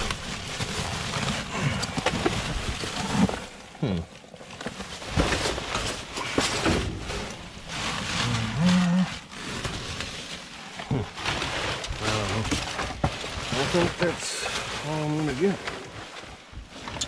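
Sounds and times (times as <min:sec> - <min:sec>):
low hum: 0:00.0 - 0:14.0
trash rustling and clattering: 0:00.0 - 0:17.0.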